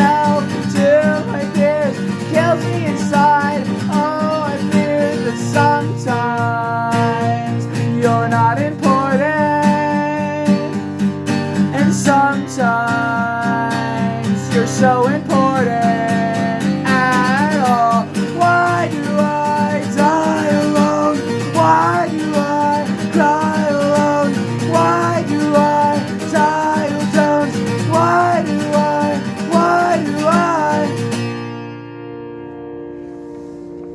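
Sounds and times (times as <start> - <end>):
person singing wordless melody: 0.0 - 10.9, 11.7 - 31.3
strummed acoustic guitar: 0.0 - 33.9.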